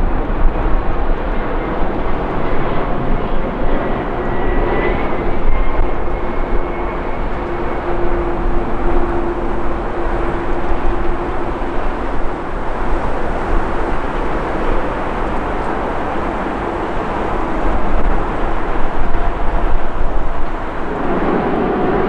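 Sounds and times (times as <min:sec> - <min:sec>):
high whine: 0:00.0 - 0:22.0
jet engines rumbling: 0:00.0 - 0:22.0.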